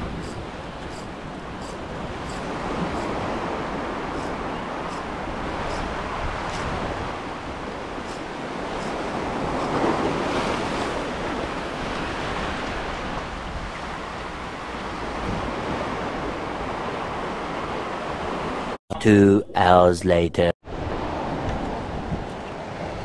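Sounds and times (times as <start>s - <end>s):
ocean surf breaking on rocks: 0.0s - 18.8s.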